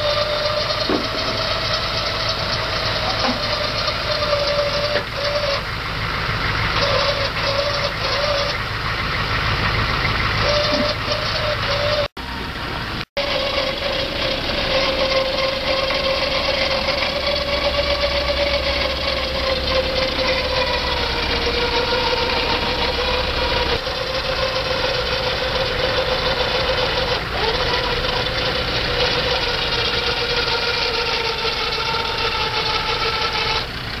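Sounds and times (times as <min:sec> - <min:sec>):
vehicle engine idling: 0:00.0 - 0:34.0
winch motor whining: 0:00.0 - 0:34.0.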